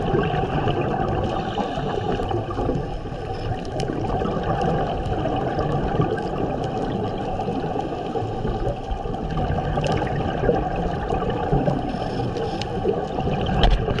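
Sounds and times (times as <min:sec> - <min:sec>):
faint clicks and crackles: 0:00.0 - 0:14.0
underwater rush of water: 0:00.0 - 0:14.0.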